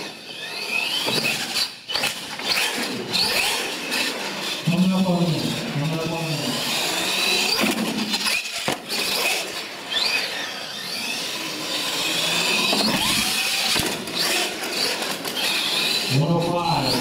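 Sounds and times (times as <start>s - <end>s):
electric toy truck motor whining: 0.0s - 17.0s.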